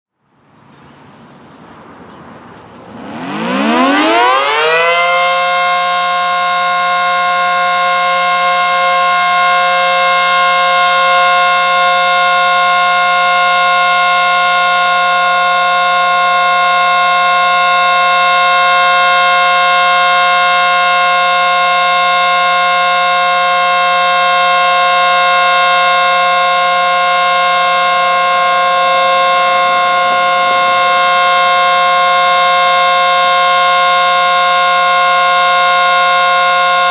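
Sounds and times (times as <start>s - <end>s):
warning siren winding up: 2.8s - 36.9s.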